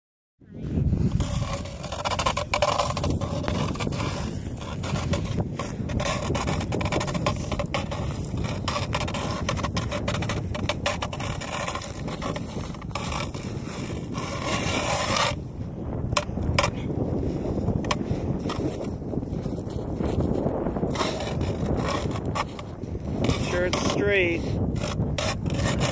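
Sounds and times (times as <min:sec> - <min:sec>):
ice auger scraping through ice: 0:01.0 - 0:25.9.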